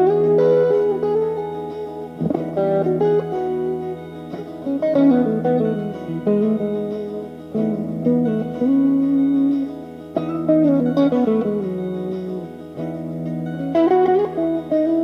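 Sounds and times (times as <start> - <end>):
clean electric guitar playing: 0.0 - 15.0.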